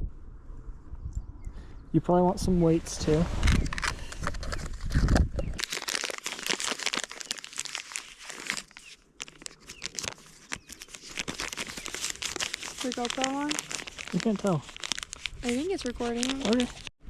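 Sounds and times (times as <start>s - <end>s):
crinkling and crackling handling: 3.0s - 16.9s.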